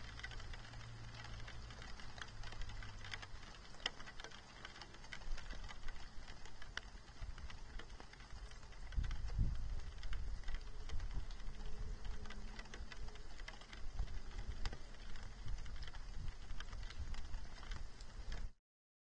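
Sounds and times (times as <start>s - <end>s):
precipitation ticking on camera housing: 0.0s - 18.5s
low wind rumble on microphone: 0.0s - 18.6s.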